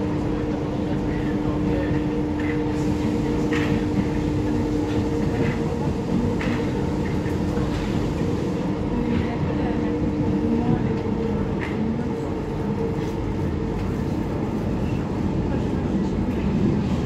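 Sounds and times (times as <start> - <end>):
constant hum: 0.0 - 17.0
train wheels rumbling on track: 0.0 - 17.0.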